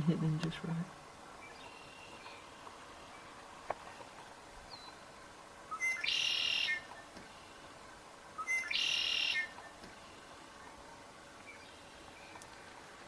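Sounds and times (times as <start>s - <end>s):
songbird singing buzzy trill: 1.0s - 12.7s.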